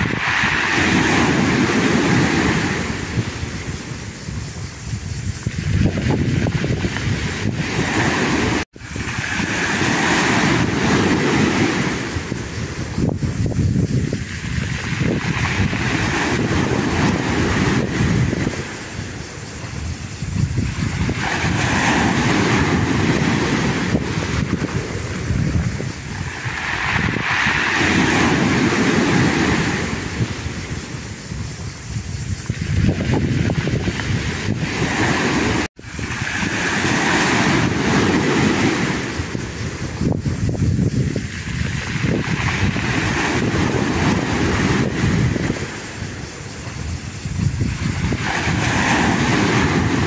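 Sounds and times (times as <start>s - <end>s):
sea waves breaking on shore: 0.0s - 50.0s
wind buffeting microphone: 0.0s - 50.0s.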